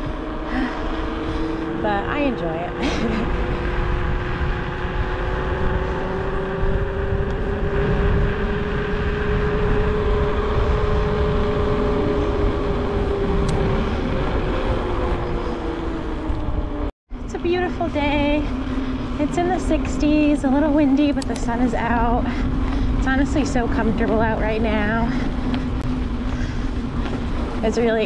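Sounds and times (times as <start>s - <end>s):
bike tyres humming on asphalt: 0.0s - 28.0s
wind rumble on microphone: 0.0s - 28.0s.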